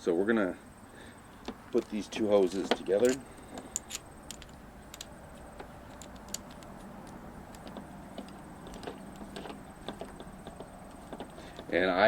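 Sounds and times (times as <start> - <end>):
hose fittings clicking and rattling: 1.4 - 11.8.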